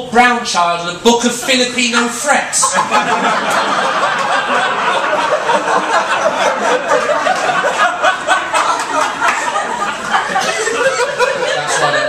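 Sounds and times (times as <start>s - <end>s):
audience laughing: 1.4s - 12.0s.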